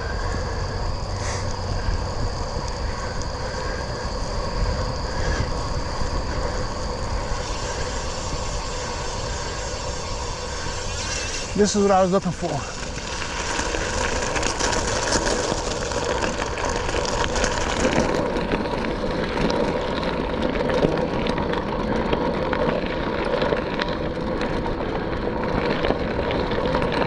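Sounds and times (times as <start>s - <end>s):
bicycle tyres rolling on wet trail: 0.0s - 27.0s
bike clicks and rattles: 0.0s - 27.0s.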